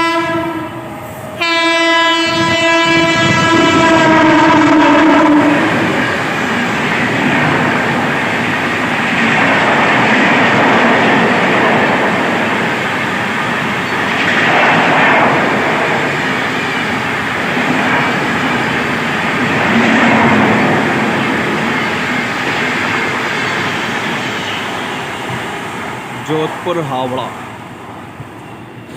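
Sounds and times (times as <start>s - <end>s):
wheels rushing on rails: 0.0s - 28.9s.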